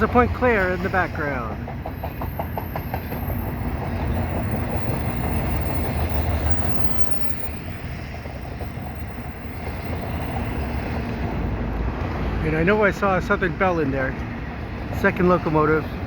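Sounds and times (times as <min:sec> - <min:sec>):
freight train cars rolling past: 0:00.0 - 0:16.0.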